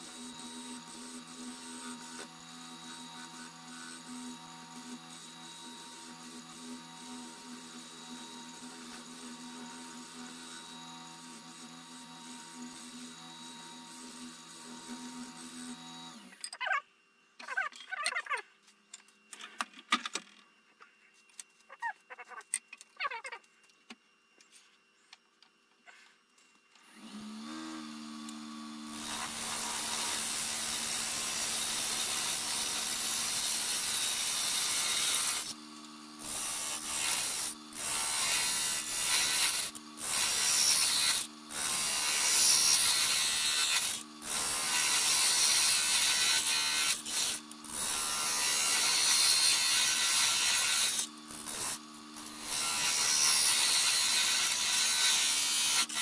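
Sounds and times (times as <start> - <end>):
turning tool cutting wood: 0.0 - 16.4, 26.8 - 56.0.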